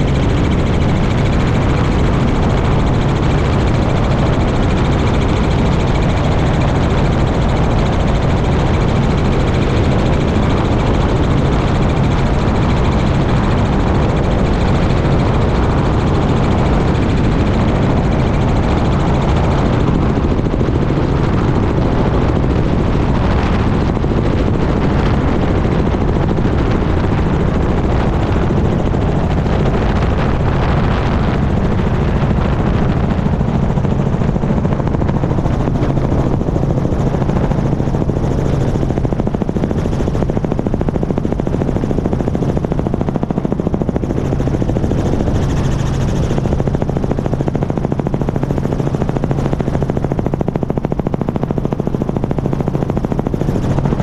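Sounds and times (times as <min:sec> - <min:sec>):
helicopter rotor and engine noise: 0:00.0 - 0:54.0
low hum: 0:00.0 - 0:54.0.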